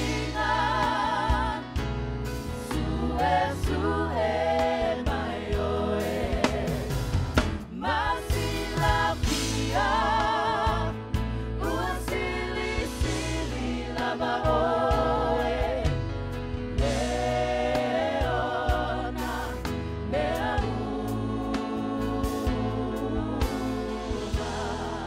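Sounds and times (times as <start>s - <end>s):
mixed choir singing worship song: 0.0s - 25.0s.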